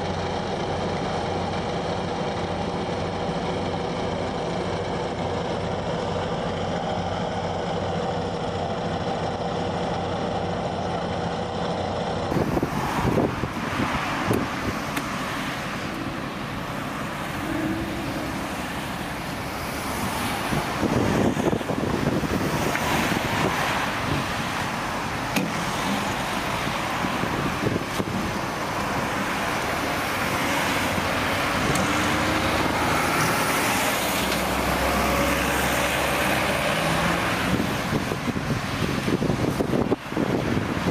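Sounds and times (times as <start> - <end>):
diesel engine droning: 0.0 - 40.9
heavy truck rumbling by: 0.0 - 40.9
vehicles passing: 0.0 - 40.9.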